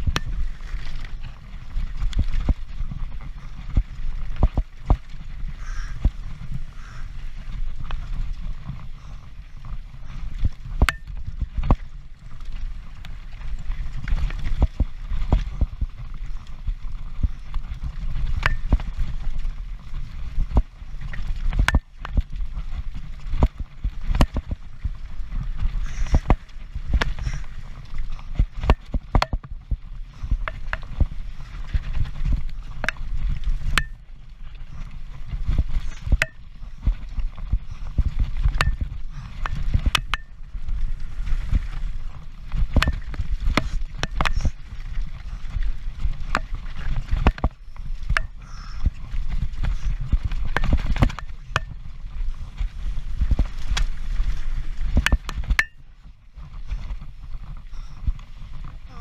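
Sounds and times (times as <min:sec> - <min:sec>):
bike wheels knocking and rattling: 0:00.0 - 0:40.8, 0:41.4 - 0:55.9
rumble of tyres and wind: 0:00.0 - 0:59.0.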